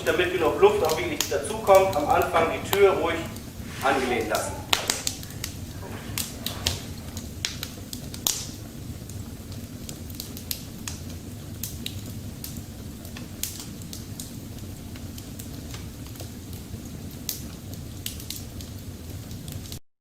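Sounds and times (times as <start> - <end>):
low rumble of flames: 0.0 - 19.8
sharp pops of fire: 0.0 - 19.8
wood fire crackling in stove: 0.0 - 19.8.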